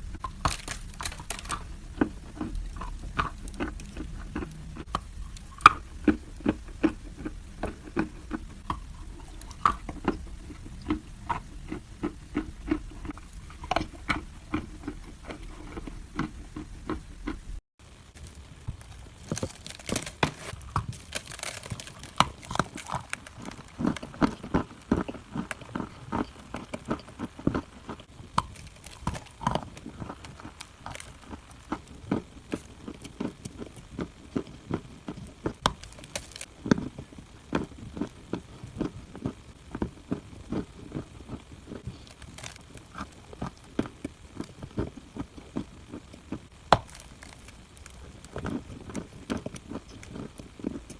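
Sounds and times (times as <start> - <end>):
dry clay chunks crunching: 0.0 - 16.4, 17.9 - 50.9.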